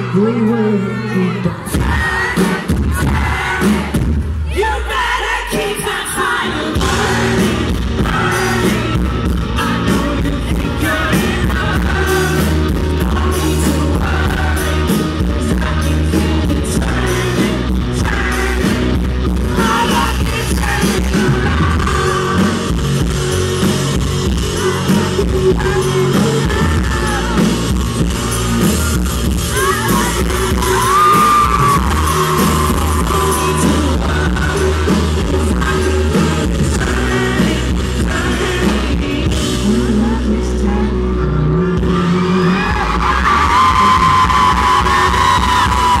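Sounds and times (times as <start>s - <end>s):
singer's amplified vocals: 0.0s - 23.6s, 24.2s - 28.0s, 29.4s - 46.0s
crowd shouting and whooping: 0.0s - 37.4s, 40.2s - 46.0s
live rock band playing: 0.0s - 46.0s.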